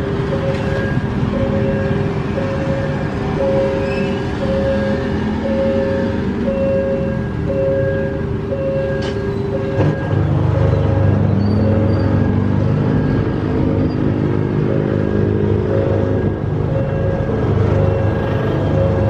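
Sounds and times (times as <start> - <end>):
diesel train engine running: 0.0 - 19.0.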